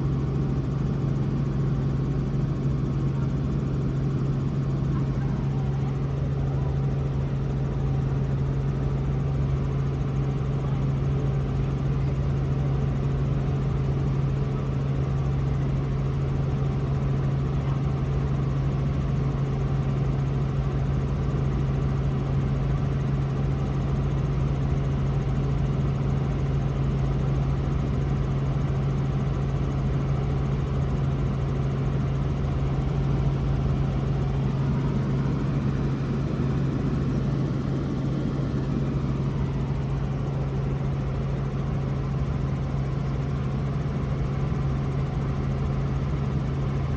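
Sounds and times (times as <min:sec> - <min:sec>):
helicopter engine and rotors drone: 0:00.0 - 0:46.9.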